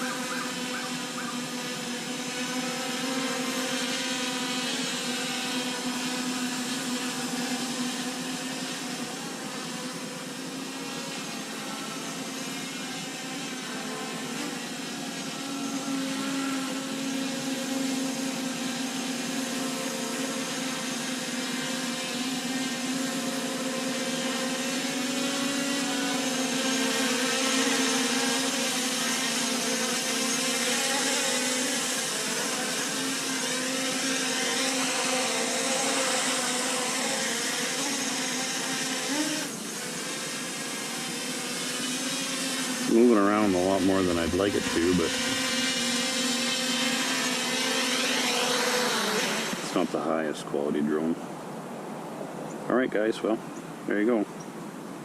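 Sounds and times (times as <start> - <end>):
drone propellers whining: 0.0 - 50.4.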